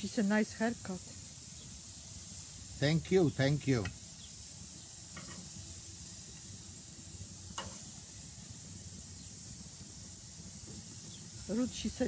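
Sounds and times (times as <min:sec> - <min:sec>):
shrimp sizzling on a grill: 0:00.0 - 0:12.0.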